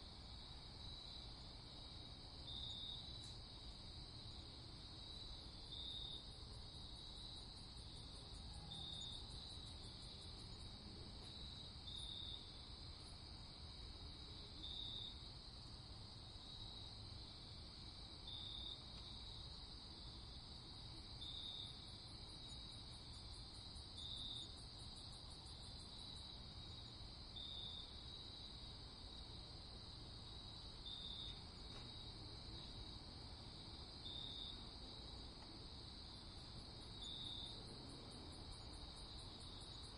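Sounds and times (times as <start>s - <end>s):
cricket chirp: 0.0s - 39.9s
crickets trilling: 0.2s - 39.9s.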